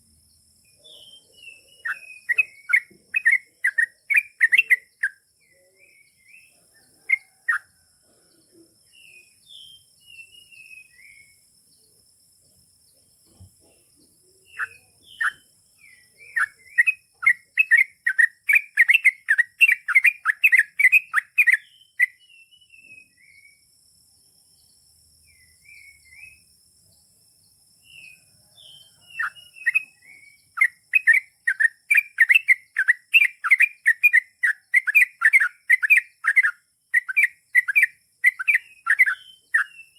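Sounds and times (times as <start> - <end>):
bird chattering song: 0.0 - 12.0, 12.9 - 23.6, 27.8 - 39.9.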